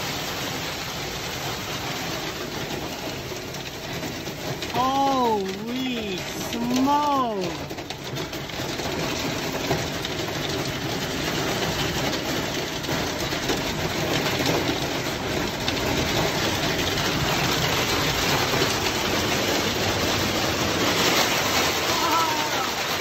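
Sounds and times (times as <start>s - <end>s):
hail pelting vehicle roof: 0.0s - 23.0s.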